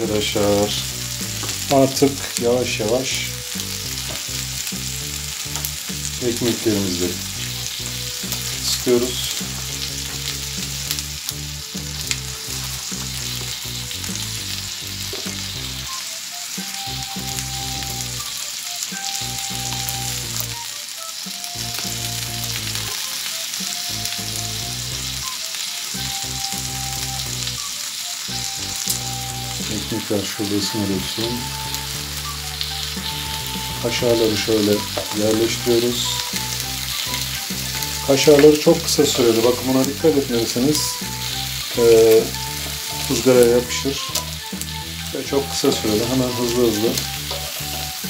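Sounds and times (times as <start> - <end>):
sausages sizzling on a grill: 0.0 - 48.0.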